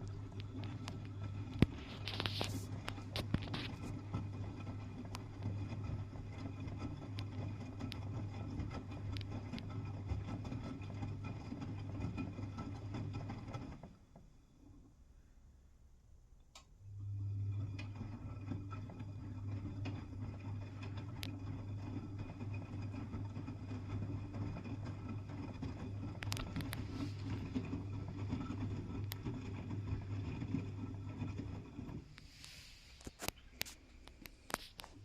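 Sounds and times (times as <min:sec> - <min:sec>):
washing machine humming: 0:00.0 - 0:15.3, 0:16.4 - 0:35.0.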